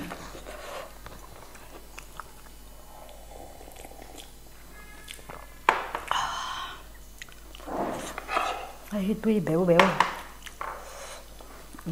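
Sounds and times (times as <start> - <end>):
person chewing: 0.1 - 9.0, 10.2 - 11.9.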